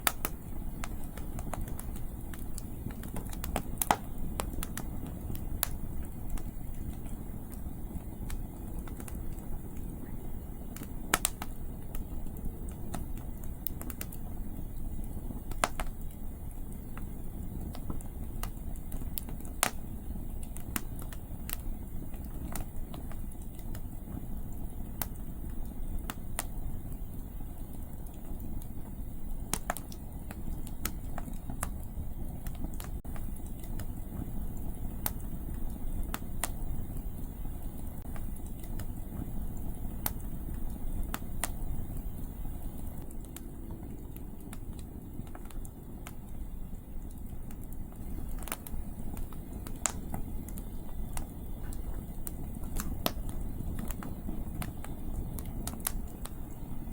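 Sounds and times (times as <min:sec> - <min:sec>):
campfire crackling and popping: 0:00.0 - 0:56.9
low wind rumble: 0:00.0 - 0:56.9.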